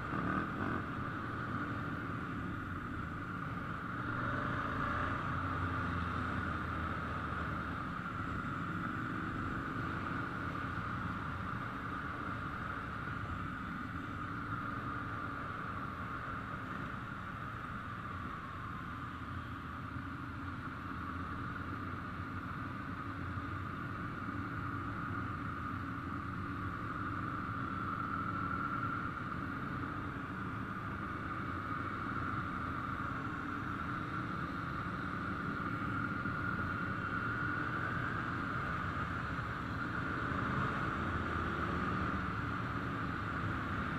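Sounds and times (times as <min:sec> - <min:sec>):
motorcycle engines rumbling: 0:00.0 - 0:43.9.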